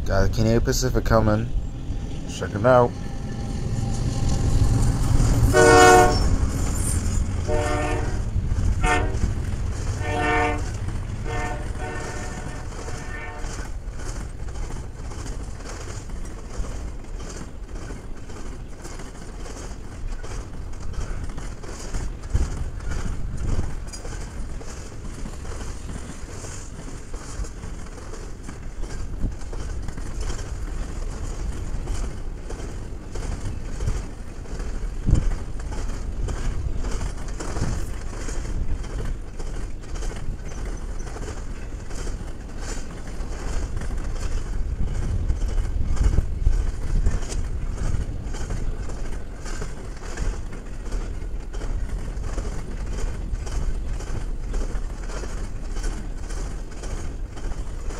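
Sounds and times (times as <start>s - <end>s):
steel wheels rumbling on rail: 0.0s - 57.9s
track clacks: 0.0s - 57.9s.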